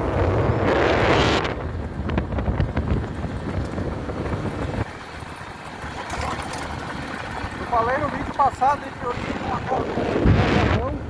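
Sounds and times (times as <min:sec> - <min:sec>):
motorcycle engine rumble: 0:00.0 - 0:11.0
wind buffeting microphone: 0:00.0 - 0:11.0.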